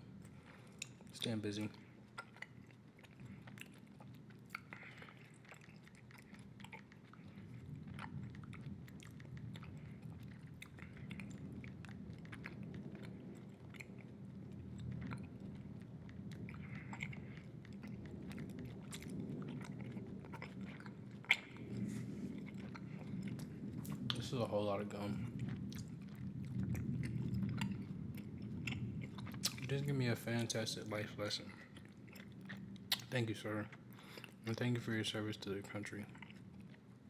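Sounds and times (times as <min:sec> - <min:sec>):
chewing bubble gum: 0:00.0 - 0:37.0.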